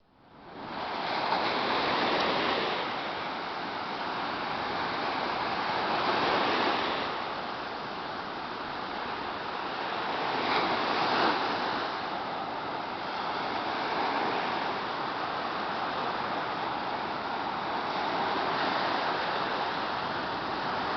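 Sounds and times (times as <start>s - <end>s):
sea waves breaking: 0.2s - 20.9s.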